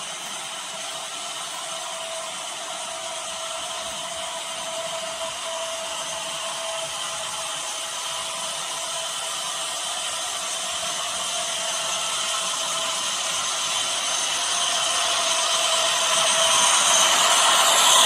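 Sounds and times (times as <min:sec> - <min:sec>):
model train whirring and rattling: 0:00.0 - 0:18.0.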